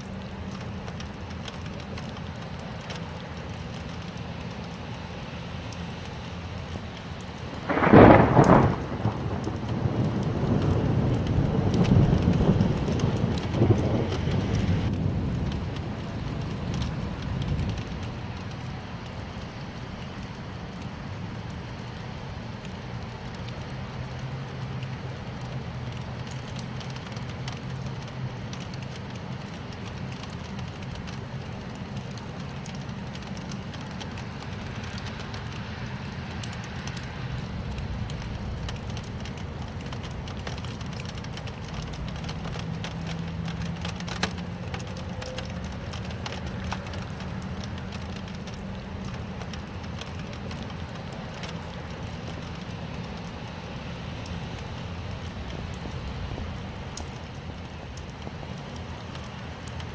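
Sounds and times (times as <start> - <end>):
low rumble with faint hum: 0.0 - 59.9
steady rain: 0.0 - 59.9.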